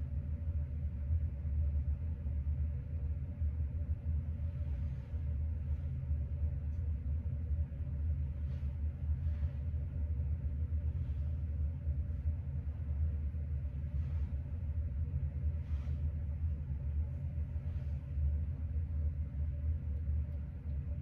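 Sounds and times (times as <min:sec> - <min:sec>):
faint even hum: 0:00.0 - 0:21.0
fan running: 0:00.0 - 0:21.0.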